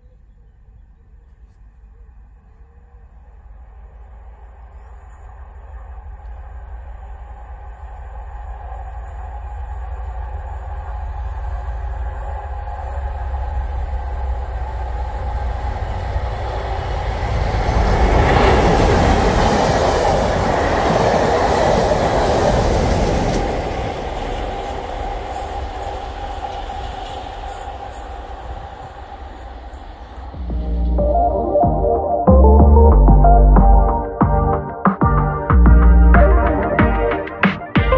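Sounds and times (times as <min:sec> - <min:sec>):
diesel locomotives passing: 0:00.3 - 0:32.5
steady whine: 0:02.0 - 0:21.1, 0:21.8 - 0:37.9.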